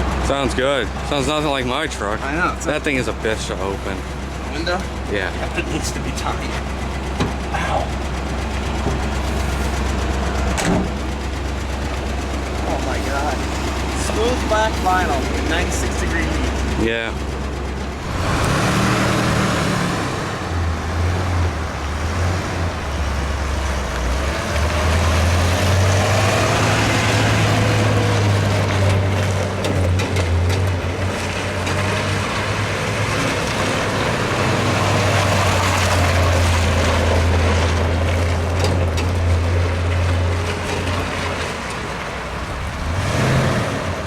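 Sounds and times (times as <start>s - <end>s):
truck engine running: 0.0s - 44.0s.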